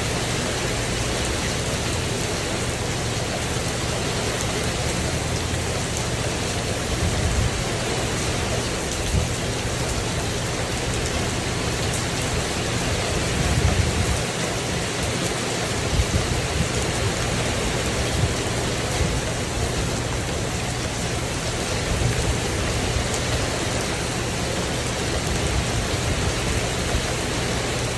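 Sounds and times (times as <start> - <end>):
rain on a tin roof: 0.0 - 27.9.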